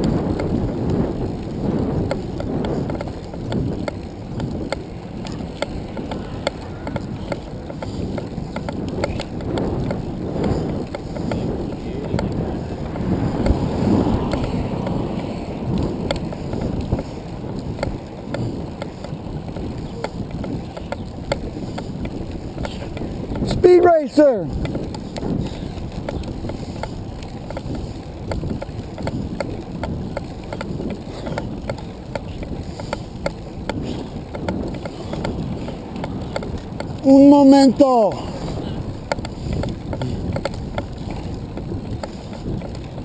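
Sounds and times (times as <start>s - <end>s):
road rumble: 0.0s - 43.0s
sharp clicks and rattles: 0.0s - 43.0s
wind rumbling on microphone: 0.0s - 43.0s.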